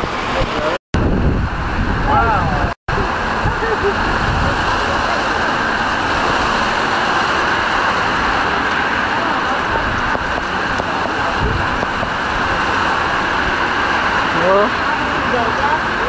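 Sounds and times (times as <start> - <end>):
cars swishing through water: 0.0 - 16.0
heavy rain pouring: 0.0 - 16.0.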